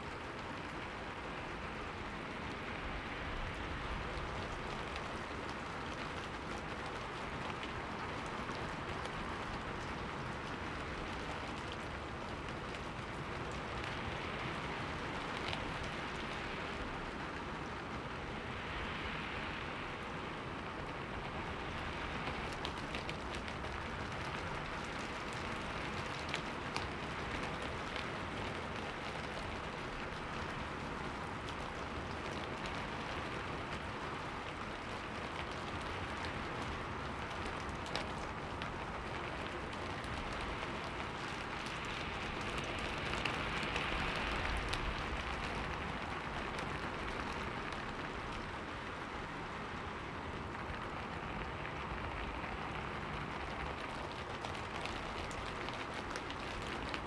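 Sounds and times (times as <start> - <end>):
rain on a window: 0.0 - 57.0.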